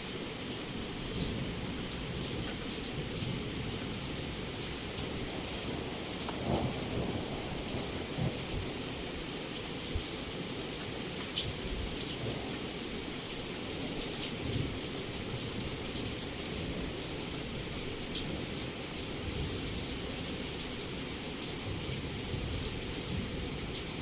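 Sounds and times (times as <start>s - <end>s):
heavy rain on a window: 0.0s - 24.0s.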